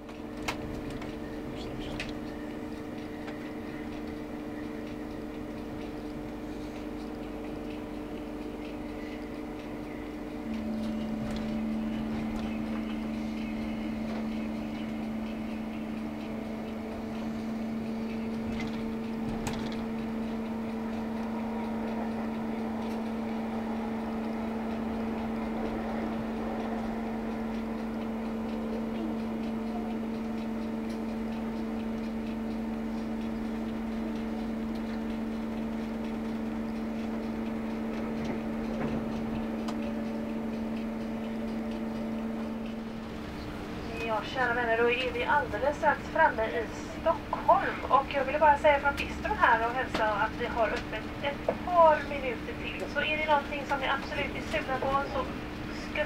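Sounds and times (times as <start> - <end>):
electrical hum: 0.0 - 56.0
train rolling rumble: 0.0 - 56.0.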